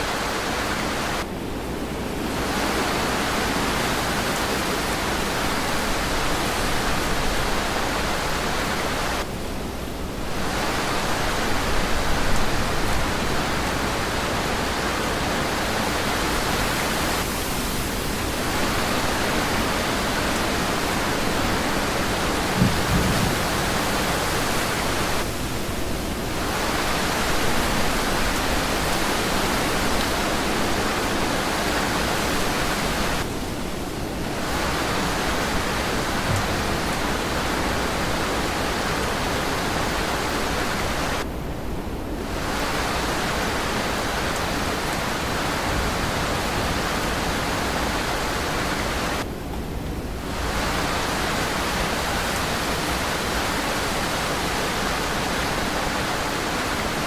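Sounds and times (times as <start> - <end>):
dense rain hiss: 0.0 - 57.0.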